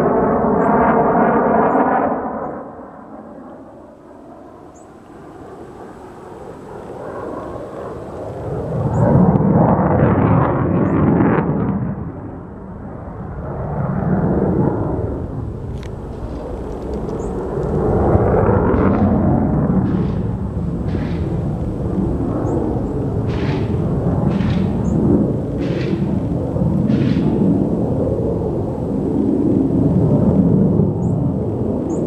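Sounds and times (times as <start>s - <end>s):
aircraft flying overhead: 0.0s - 32.0s.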